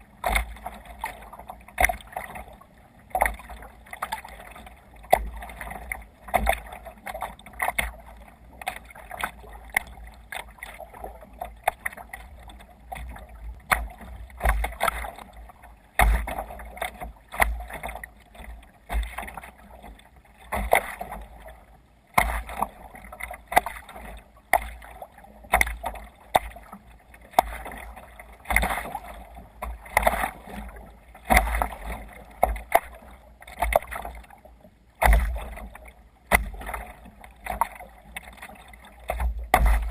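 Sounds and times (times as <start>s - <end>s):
low rumble of wind and water: 0.0s - 39.9s
water splashing against kayak hull: 0.0s - 39.9s.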